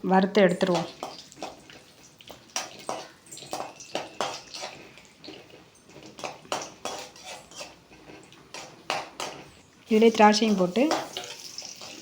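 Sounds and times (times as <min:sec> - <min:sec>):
spoon scraping a pan: 0:00.7 - 0:12.0.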